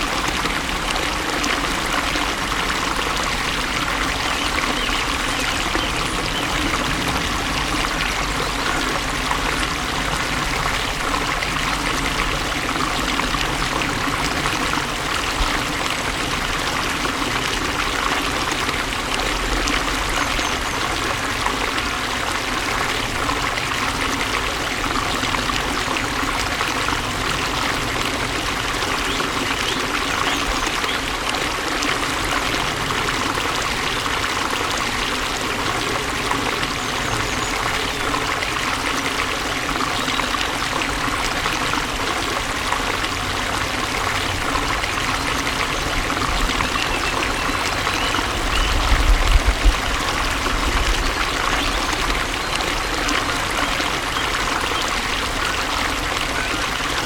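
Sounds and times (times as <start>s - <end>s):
stream running and splashing: 0.0s - 57.0s.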